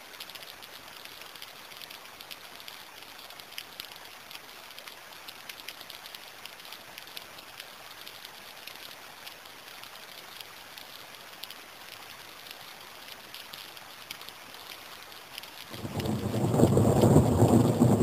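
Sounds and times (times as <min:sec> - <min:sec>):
rain drops pattering: 0:00.0 - 0:18.0.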